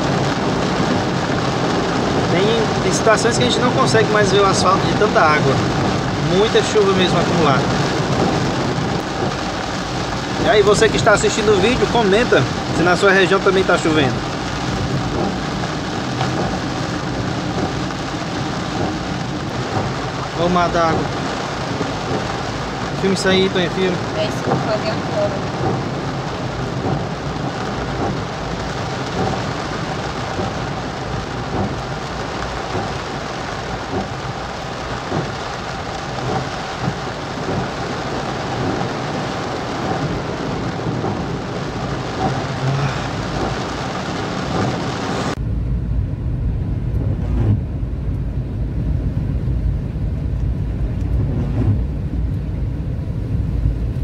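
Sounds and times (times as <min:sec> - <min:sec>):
car driving on wet road: 0:00.0 - 0:54.0
heavy rain drumming on car roof: 0:00.0 - 0:54.0.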